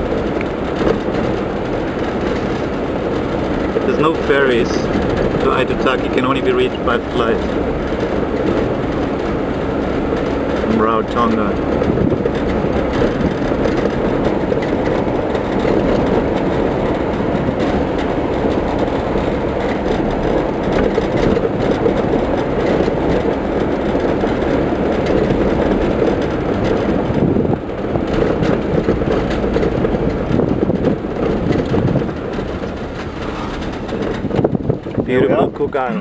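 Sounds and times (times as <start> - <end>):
vehicle road and engine rumble: 0.0 - 36.0.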